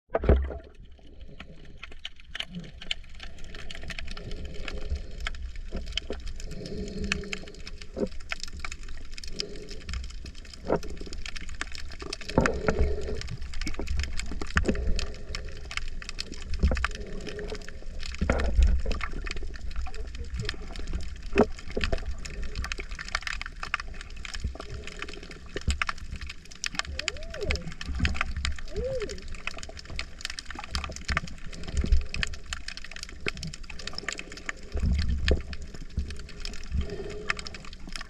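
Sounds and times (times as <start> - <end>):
low rumble of moving water: 0.1 - 38.0
underwater crackling clicks: 0.1 - 38.0.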